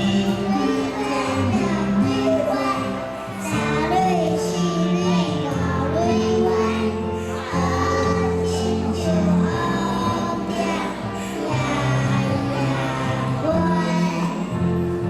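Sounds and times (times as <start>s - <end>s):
children singing: 0.0s - 15.0s
instrumental accompaniment: 0.0s - 15.0s.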